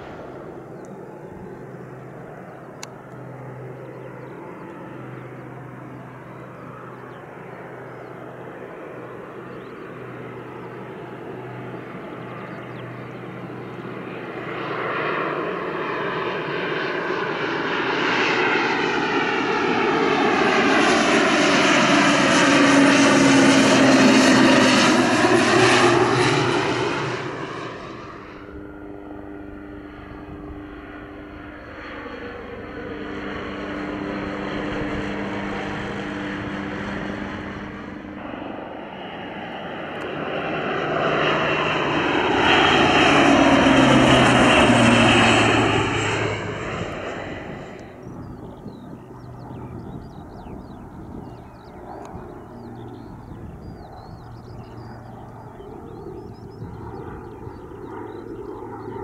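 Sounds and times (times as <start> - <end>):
airplanes flying past: 0.0 - 59.0.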